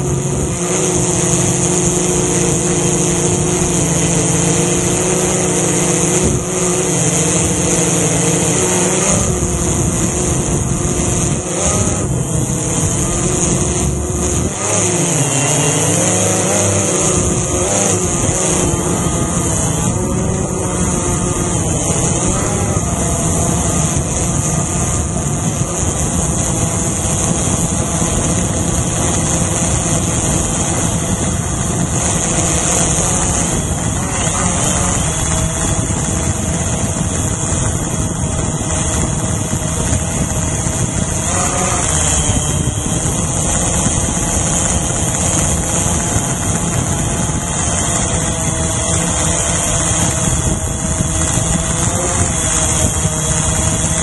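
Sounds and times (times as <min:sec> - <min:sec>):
drone motors buzzing: 0:00.0 - 0:54.0.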